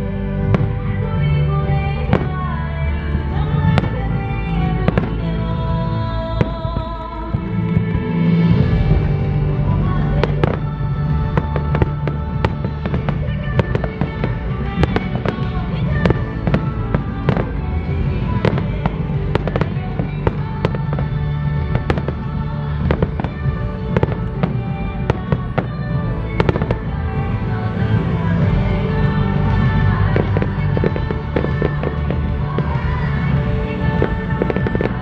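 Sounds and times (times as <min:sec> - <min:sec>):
pop song: 0:00.0 - 0:35.0
fireworks bursting: 0:00.2 - 0:35.0.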